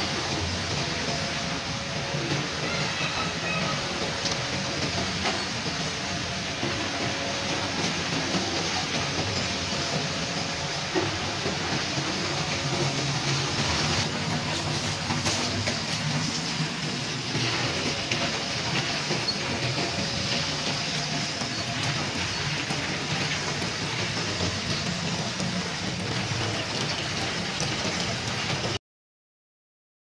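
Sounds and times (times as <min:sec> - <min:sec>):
machinery drone: 0:00.0 - 0:28.8.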